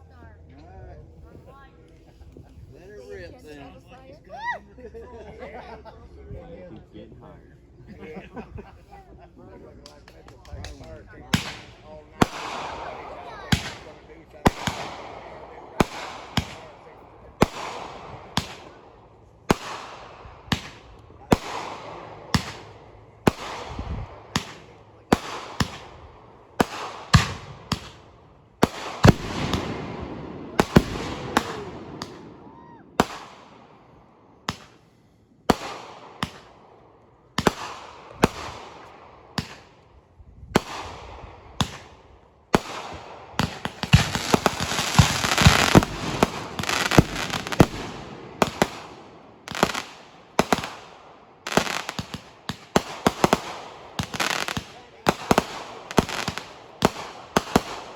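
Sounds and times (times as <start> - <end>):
fireworks banging and crackling: 9.8 - 57.9.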